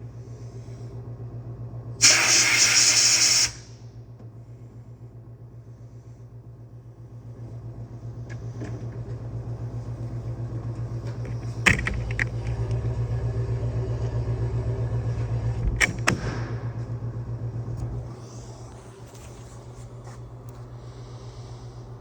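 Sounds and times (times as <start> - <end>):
motor humming and pulsing: 4.0 - 22.0.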